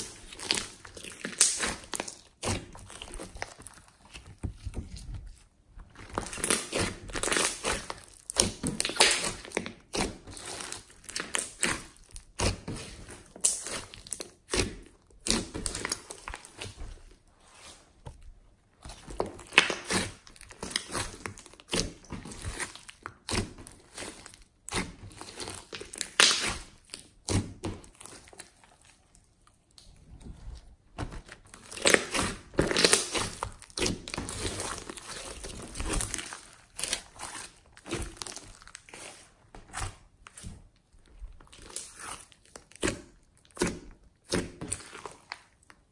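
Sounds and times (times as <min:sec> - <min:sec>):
slime squishing and crackling: 0:00.0 - 0:45.9.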